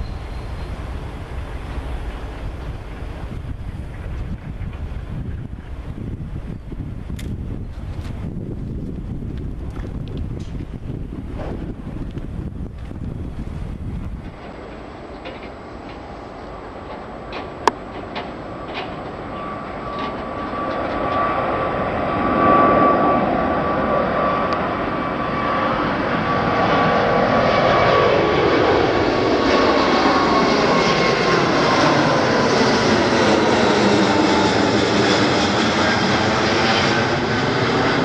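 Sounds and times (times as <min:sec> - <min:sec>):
high fan whine: 0:00.0 - 0:38.0
jet engines roaring overhead: 0:00.0 - 0:38.0.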